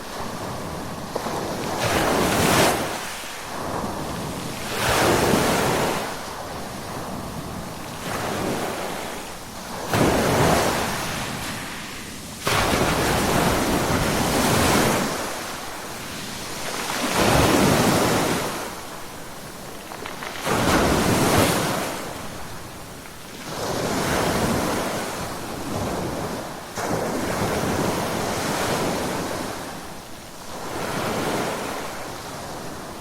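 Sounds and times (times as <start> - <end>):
ocean waves breaking on shore: 0.0 - 33.0.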